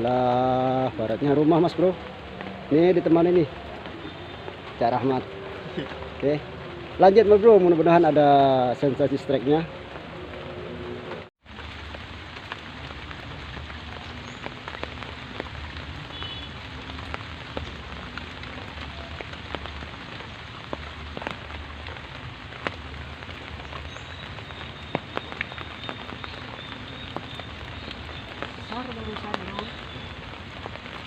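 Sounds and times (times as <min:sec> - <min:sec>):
raindrops ticking: 0:00.0 - 0:31.0
steady rain hissing: 0:00.0 - 0:31.0.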